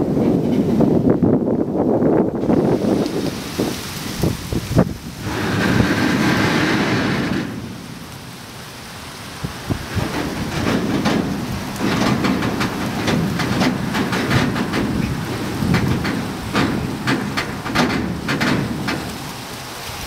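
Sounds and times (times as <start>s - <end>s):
train cars clanking and creaking: 0.0s - 1.3s, 5.1s - 20.0s
steel wheels rumbling on rail: 0.0s - 20.0s.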